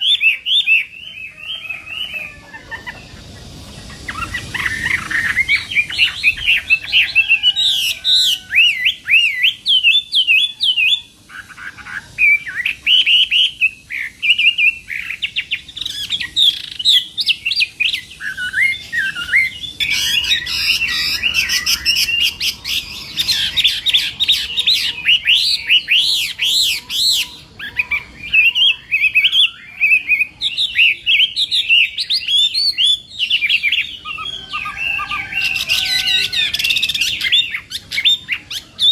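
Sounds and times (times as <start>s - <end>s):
bird singing whistled phrases: 0.0s - 3.2s, 3.8s - 38.9s.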